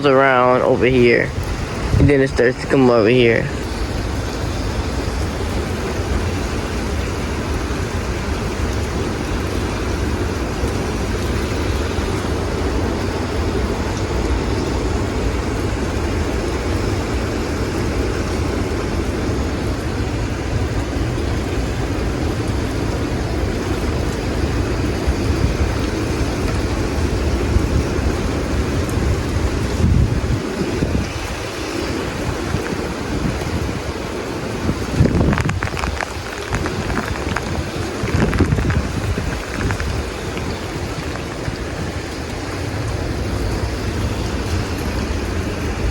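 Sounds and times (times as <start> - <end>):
strong wind blowing: 0.0 - 45.9.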